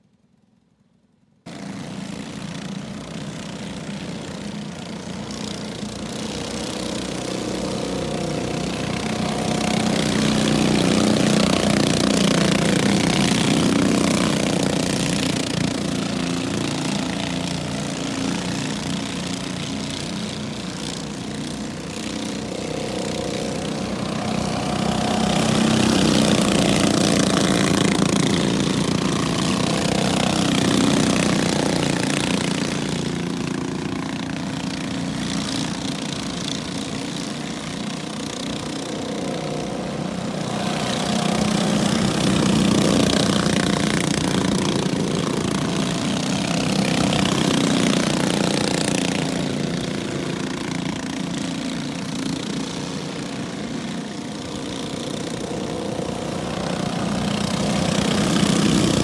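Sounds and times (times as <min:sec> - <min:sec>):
small race car engines passing: 0:01.5 - 0:59.0.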